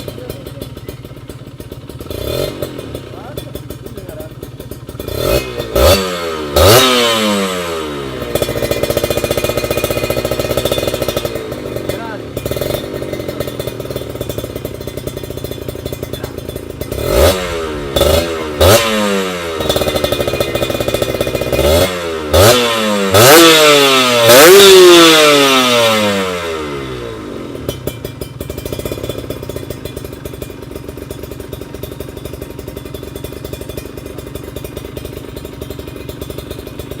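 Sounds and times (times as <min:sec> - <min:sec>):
motorcycle engine revving and idling: 0:00.0 - 0:37.0.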